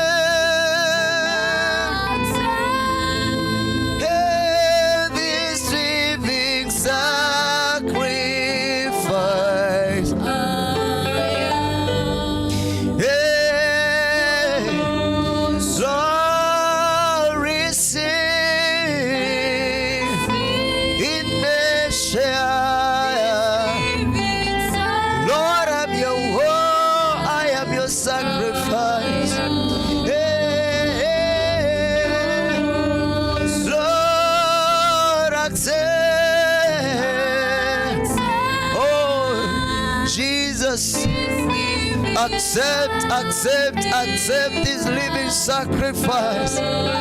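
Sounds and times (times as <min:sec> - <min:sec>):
instrumental backing: 0:00.0 - 0:47.0
person singing long notes: 0:00.0 - 0:47.0.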